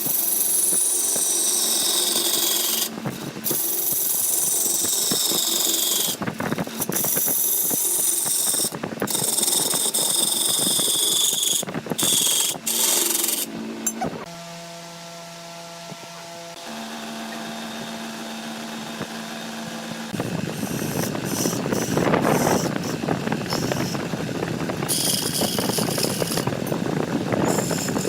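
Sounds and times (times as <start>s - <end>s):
lathe tool scraping spinning wood: 0.0s - 14.2s, 16.7s - 28.0s.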